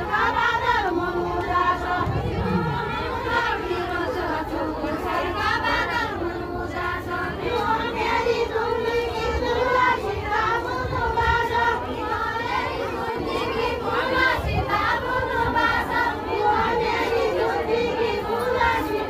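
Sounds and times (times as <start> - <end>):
women singing in unison: 0.0 - 19.0.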